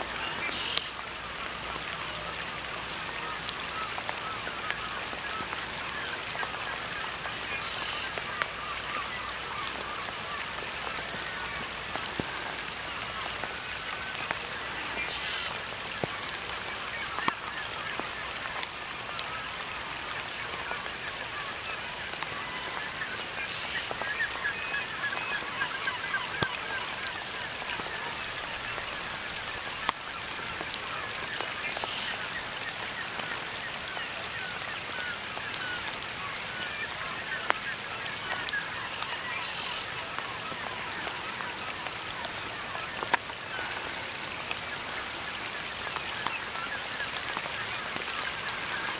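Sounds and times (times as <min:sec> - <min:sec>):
geese honking: 0:00.1 - 0:48.9.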